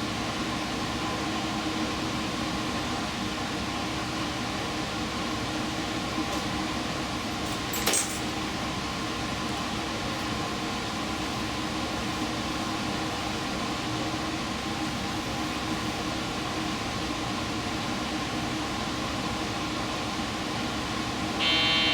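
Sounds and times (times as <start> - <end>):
train mechanical hum: 0.0 - 21.9.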